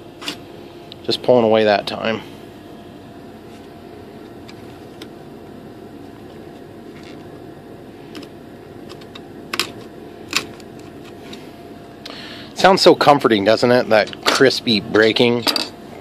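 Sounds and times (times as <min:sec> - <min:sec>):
steady faint hum: 0:00.0 - 0:16.0.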